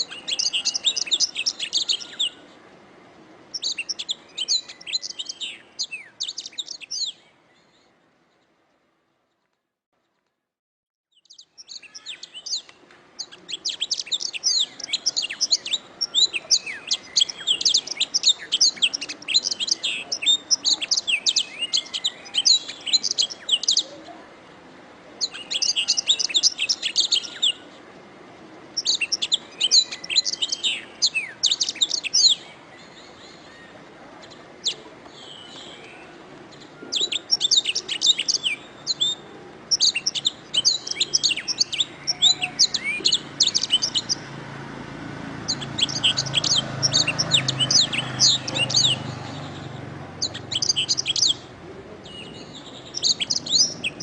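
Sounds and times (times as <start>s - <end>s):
canary singing trills and chirps: 0.0s - 2.4s, 3.5s - 7.2s, 11.1s - 23.9s, 25.2s - 27.6s, 28.7s - 44.4s, 45.3s - 54.0s.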